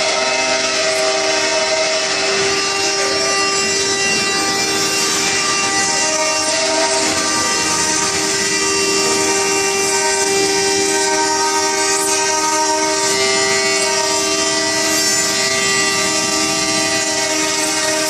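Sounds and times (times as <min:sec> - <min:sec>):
router spindles whining: 0:00.0 - 0:18.0.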